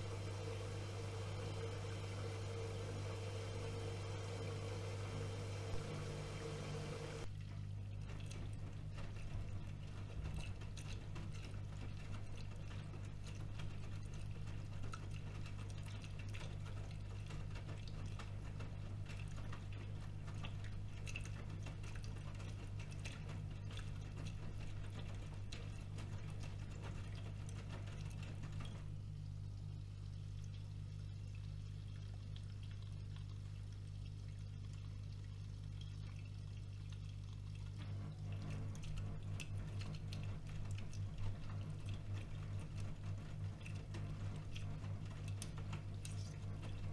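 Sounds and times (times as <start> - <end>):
washing machine motor hum: 0.0 - 46.9.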